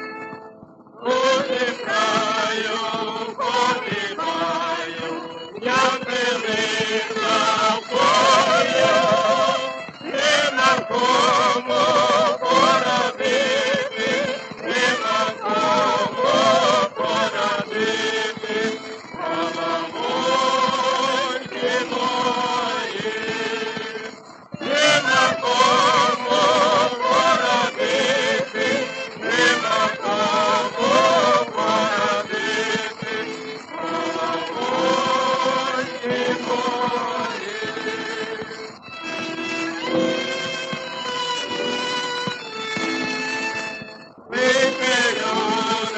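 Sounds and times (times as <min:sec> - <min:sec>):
orchestra accompaniment: 0:00.0 - 0:45.9
male vocal quartet singing: 0:01.0 - 0:38.6, 0:44.3 - 0:45.9.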